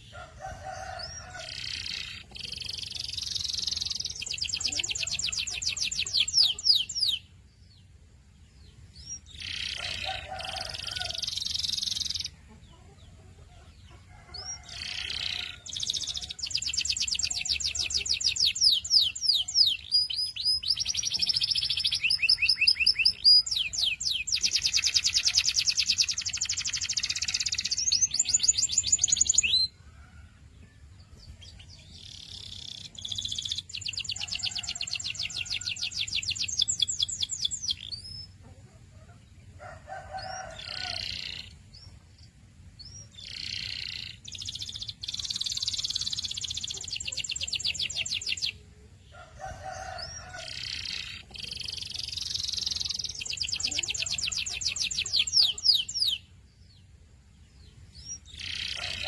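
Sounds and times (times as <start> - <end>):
canary singing trills: 0.0 - 30.0, 31.1 - 59.0.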